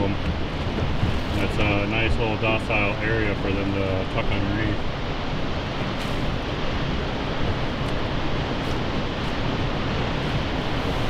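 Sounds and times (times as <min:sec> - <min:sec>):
water rushing around hull: 0:00.0 - 0:11.0
wind on microphone: 0:00.0 - 0:11.0.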